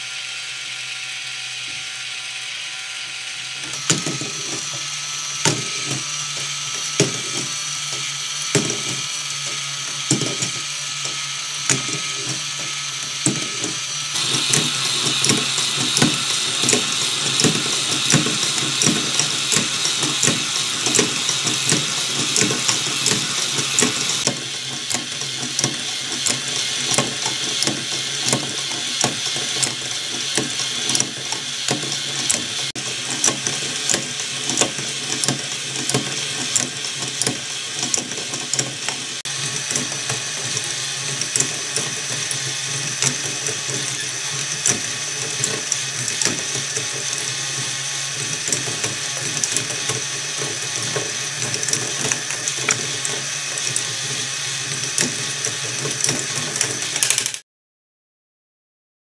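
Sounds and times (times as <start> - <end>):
plastic gears clattering: 3.6 - 57.4.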